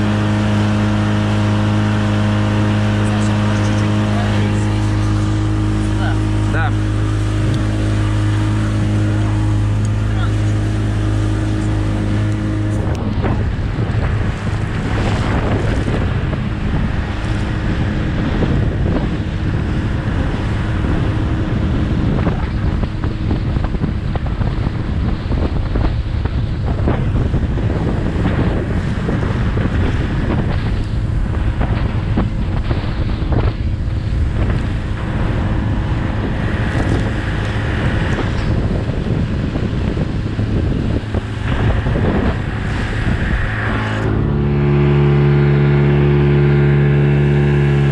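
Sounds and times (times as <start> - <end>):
heavy wind on microphone: 0.0 - 47.9
hull slapping waves: 0.0 - 47.9
outboard engine running: 0.0 - 47.9.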